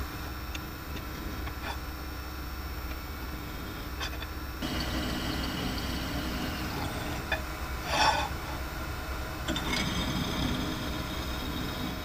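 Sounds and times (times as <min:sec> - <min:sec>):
drill press motor hum: 0:00.0 - 0:12.0.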